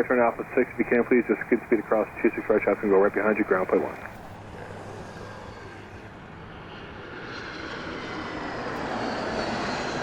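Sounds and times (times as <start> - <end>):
jet airliner engines rushing: 0.0 - 10.0.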